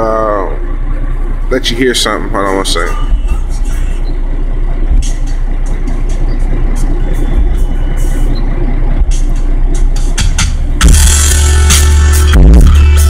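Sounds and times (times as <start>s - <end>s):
music with deep bass: 0.0s - 13.0s
truck engine idling: 0.0s - 13.0s.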